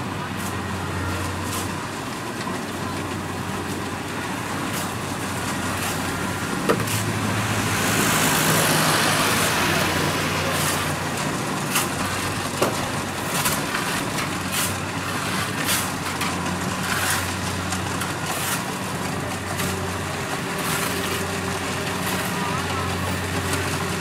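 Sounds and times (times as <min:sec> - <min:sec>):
diesel engine humming: 0:00.0 - 0:24.0
threshing machinery: 0:00.0 - 0:24.0.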